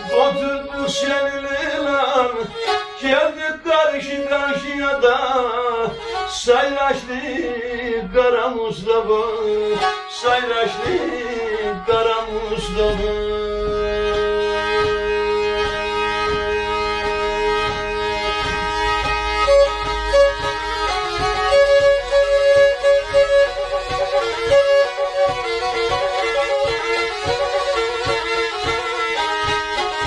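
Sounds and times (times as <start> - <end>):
bowed fiddle folk melody: 0.0 - 30.0.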